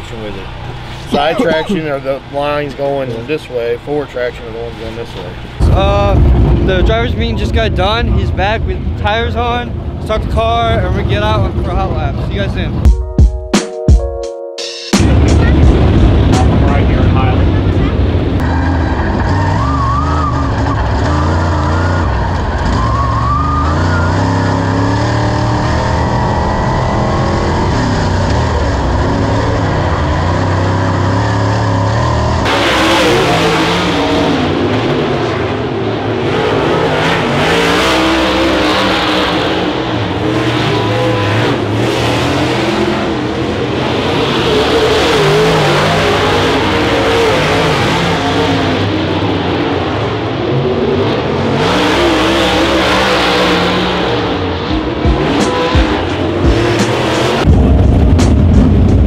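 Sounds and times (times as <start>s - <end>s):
race car engines: 0.0s - 12.8s, 15.0s - 59.0s.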